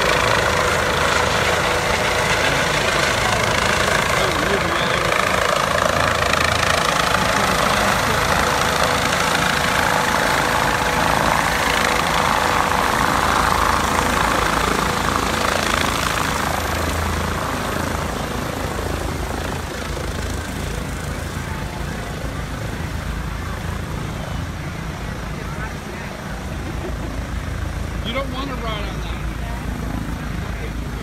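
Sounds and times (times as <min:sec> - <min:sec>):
helicopter rotor and turbine noise: 0:00.0 - 0:31.0.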